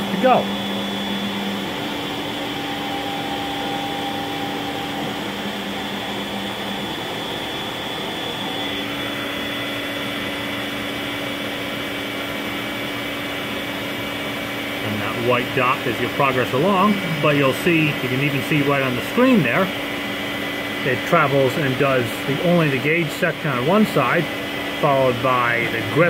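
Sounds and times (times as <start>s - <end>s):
milling machine whine: 0.0s - 26.0s.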